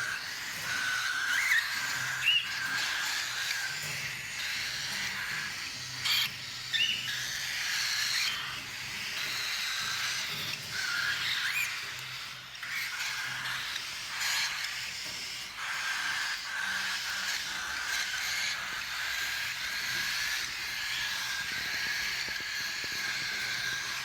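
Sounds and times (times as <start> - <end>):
parrots chattering and squawking: 0.0 - 24.0.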